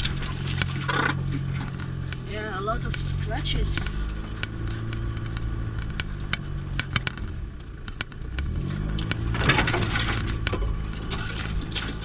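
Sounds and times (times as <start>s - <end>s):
rattling noise: 0.0s - 12.0s
vehicle engine running: 0.0s - 12.0s.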